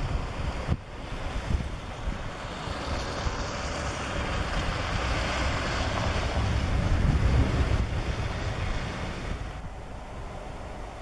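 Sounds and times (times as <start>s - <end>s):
surf wash: 0.0s - 11.0s
wind gusting across microphone: 0.0s - 11.0s.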